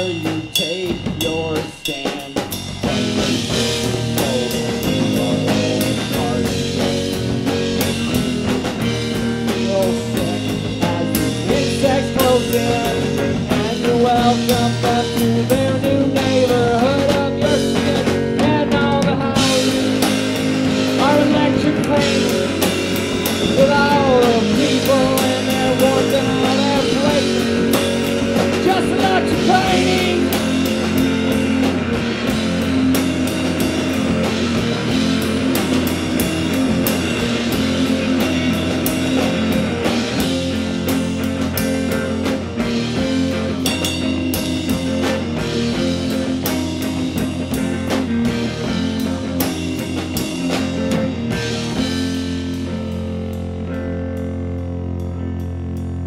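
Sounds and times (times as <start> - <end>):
drum kit with cymbals: 0.0 - 56.0
electric guitar: 0.0 - 56.0.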